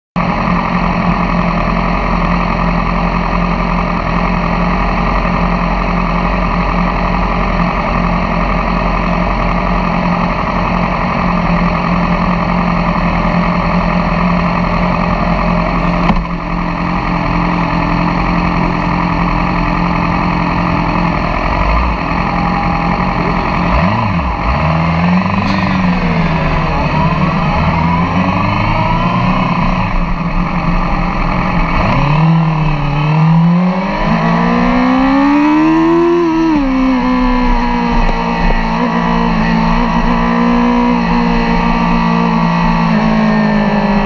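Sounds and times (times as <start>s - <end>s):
motorcycle engines idling: 0.2s - 44.0s.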